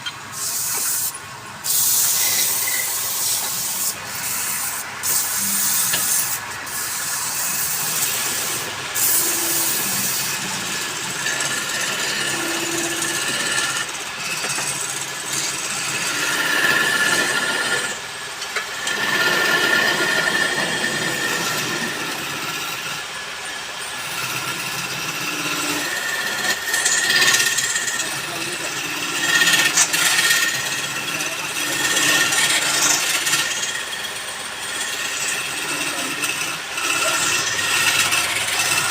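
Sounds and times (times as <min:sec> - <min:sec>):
wood lathe scraping with whine: 0:00.0 - 0:38.9.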